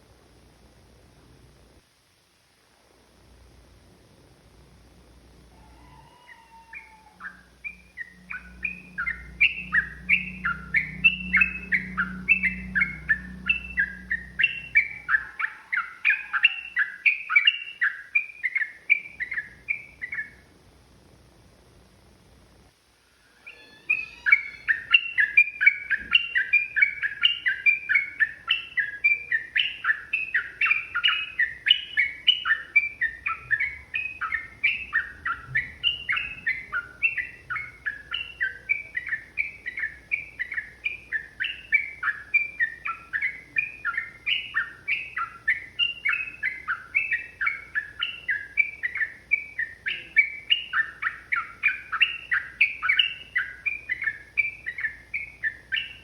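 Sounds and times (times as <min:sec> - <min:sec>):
bird singing bubbly chirps: 0:05.8 - 0:20.4, 0:23.4 - 0:56.0.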